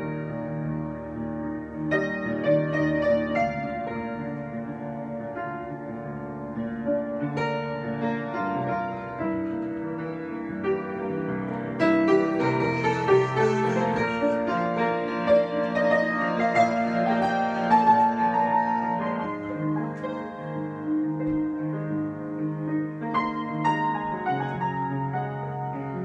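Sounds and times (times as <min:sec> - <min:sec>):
solo piano improvisation: 0:00.0 - 0:26.0.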